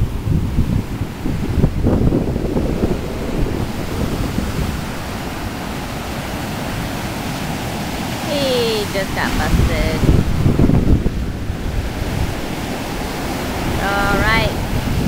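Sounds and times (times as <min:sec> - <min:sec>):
waves breaking on sand: 0:00.0 - 0:15.0
wind buffeting microphone: 0:00.0 - 0:15.0.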